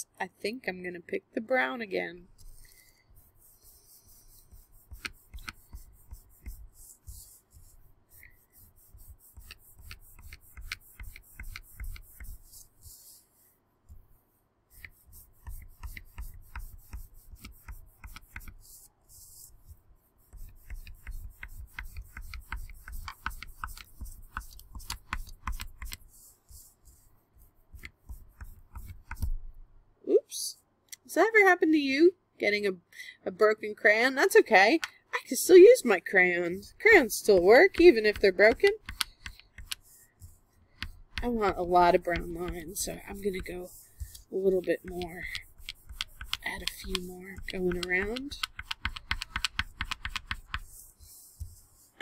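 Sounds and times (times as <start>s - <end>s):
crayon scratching on paper: 2.2s - 29.6s, 34.3s - 52.0s.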